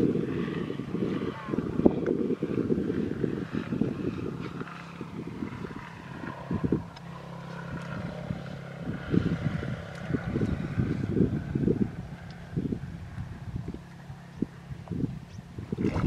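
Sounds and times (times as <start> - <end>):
distant motor drone: 0.0 - 16.0
wind rumbling on microphone: 0.0 - 16.0.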